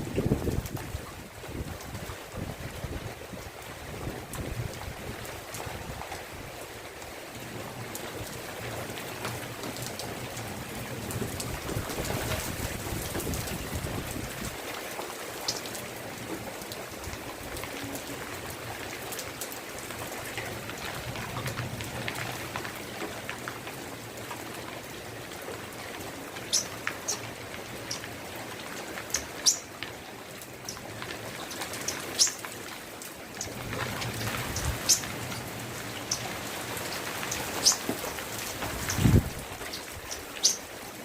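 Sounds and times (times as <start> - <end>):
rain falling: 0.0 - 41.0.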